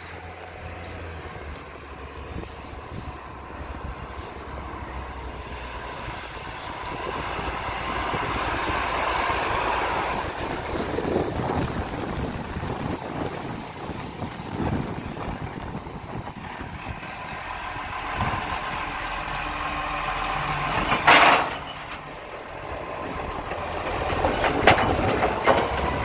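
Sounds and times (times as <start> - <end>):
garbage truck diesel engine: 0.0 - 26.0
tyres hissing on wet road: 0.0 - 26.0.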